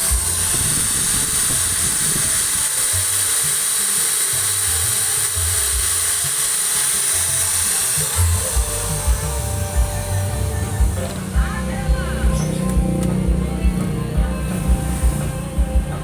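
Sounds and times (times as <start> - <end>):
background music with bass: 0.0 - 16.0
power grinder whining: 0.0 - 16.0.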